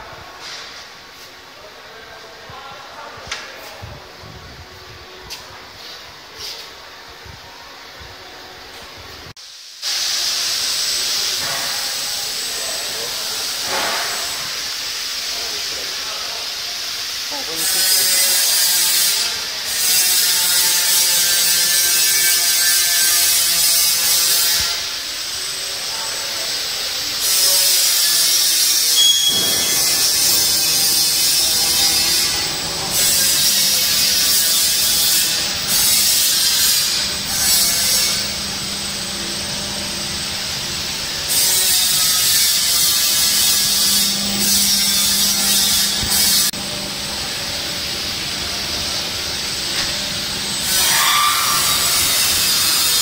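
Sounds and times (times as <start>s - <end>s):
coffee roaster hissing: 0.0s - 53.0s.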